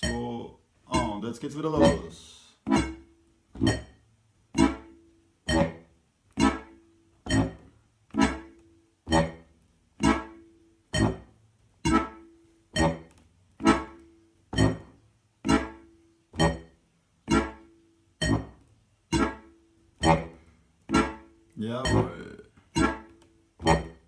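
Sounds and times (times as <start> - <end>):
staccato accordion bass notes: 1.8 - 3.9, 4.6 - 24.0.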